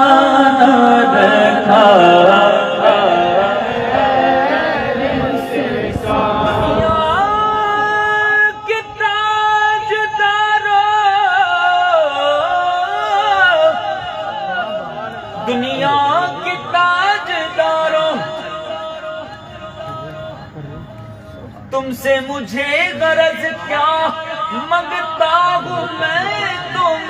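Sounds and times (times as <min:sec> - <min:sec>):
man singing unaccompanied: 0:00.0 - 0:20.0, 0:21.8 - 0:27.0.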